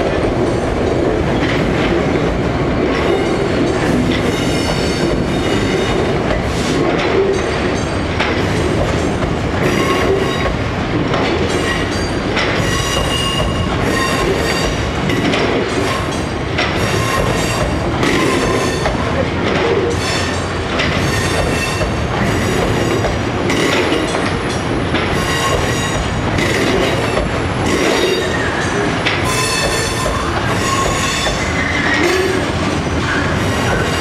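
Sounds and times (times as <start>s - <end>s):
wheels clacking over rail joints: 0.0s - 34.0s.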